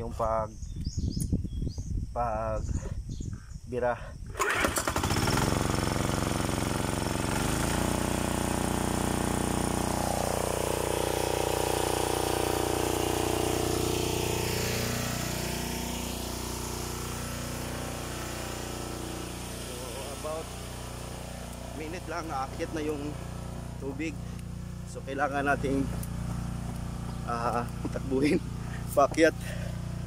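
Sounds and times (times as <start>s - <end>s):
recoil starter pull: 4.3s - 30.0s
diesel engine running: 4.4s - 30.0s.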